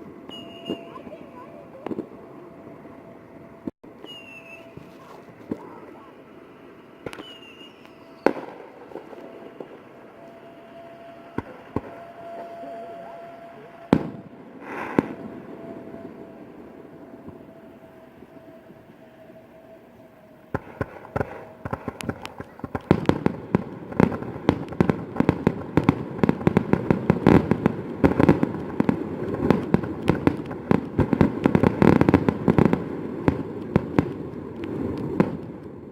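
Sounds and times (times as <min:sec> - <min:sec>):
fireworks crackling: 0:00.0 - 0:02.5, 0:03.9 - 0:35.9.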